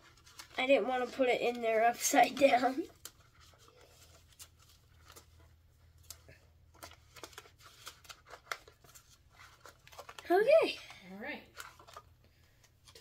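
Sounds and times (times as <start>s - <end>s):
paper bills rustling: 0.0s - 13.0s.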